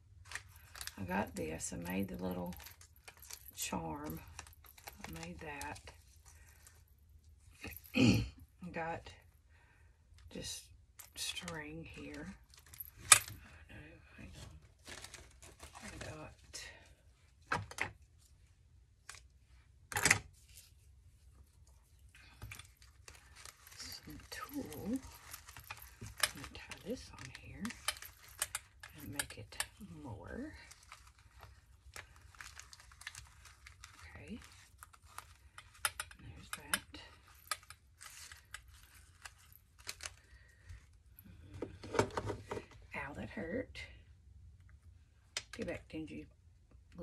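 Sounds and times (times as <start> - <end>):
rustles and clicks of materials: 0.0 - 8.0, 10.2 - 43.0.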